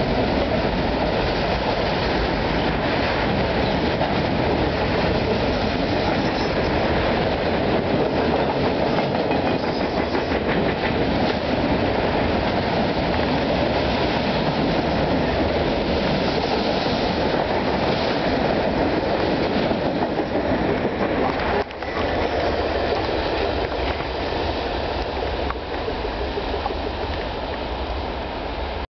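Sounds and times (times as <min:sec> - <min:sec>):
steel wheels on rails: 0:00.0 - 0:28.8.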